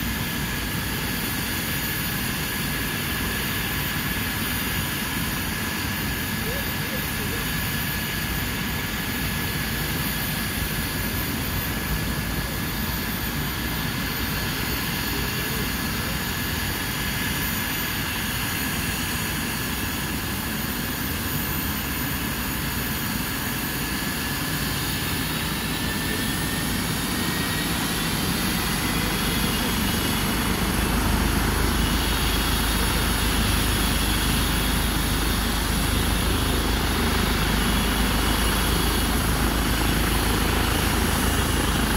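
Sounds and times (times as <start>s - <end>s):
helicopter turbines whining: 0.0s - 41.9s.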